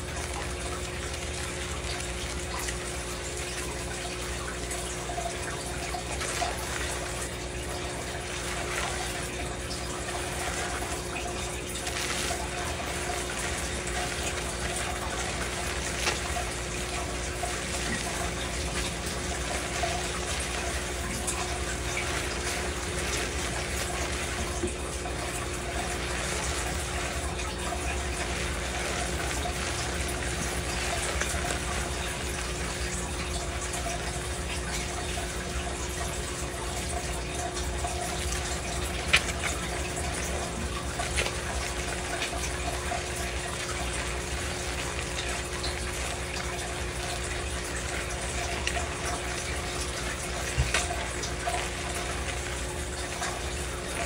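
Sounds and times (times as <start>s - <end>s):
steady hum: 0.0s - 54.0s
tap water running into metal sink: 0.0s - 54.0s.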